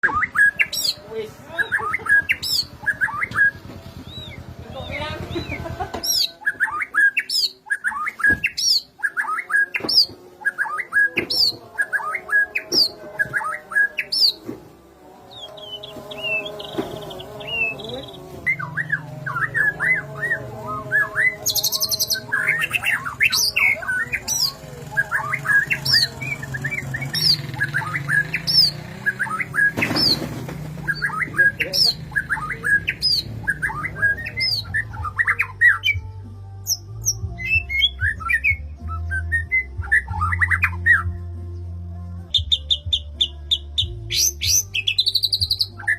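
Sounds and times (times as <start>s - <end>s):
songbird chirp and whistle calls: 0.0s - 45.9s.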